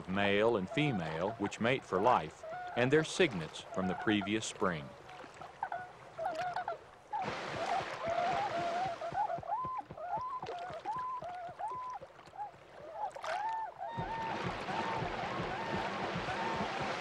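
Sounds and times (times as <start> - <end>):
swans hooting: 0.0 - 4.9, 5.6 - 17.0
splashing water: 0.8 - 17.0.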